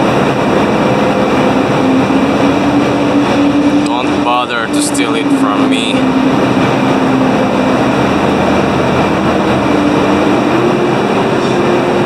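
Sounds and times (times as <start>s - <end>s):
heavy engine droning: 0.0s - 12.0s.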